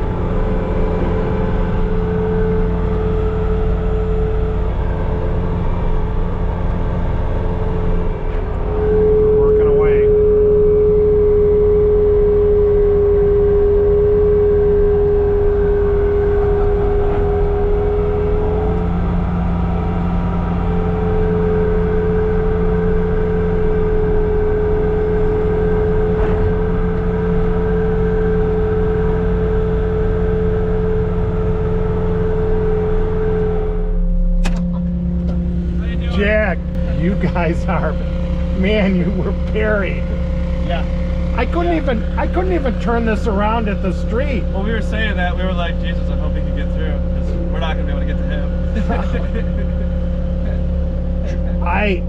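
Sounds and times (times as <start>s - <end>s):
diesel engine running: 0.0s - 52.0s
high steady whine: 0.0s - 52.0s.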